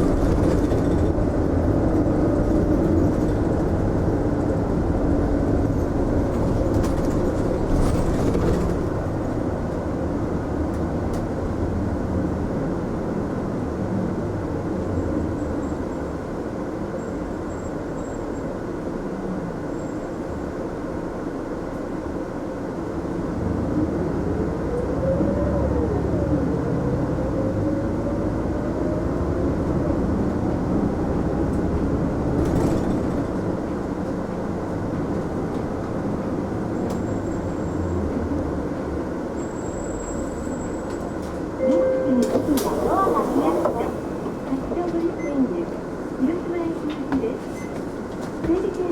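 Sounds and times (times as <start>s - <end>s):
bus engine and road noise: 0.0s - 48.9s.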